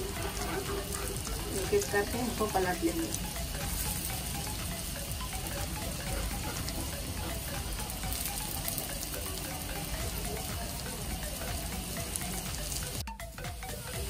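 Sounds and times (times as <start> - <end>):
patties sizzling in oil: 0.0 - 14.0.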